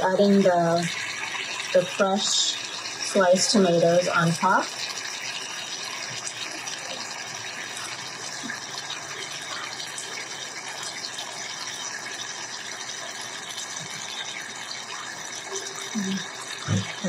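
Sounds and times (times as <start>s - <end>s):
pot simmering with steady hiss: 0.0s - 17.0s.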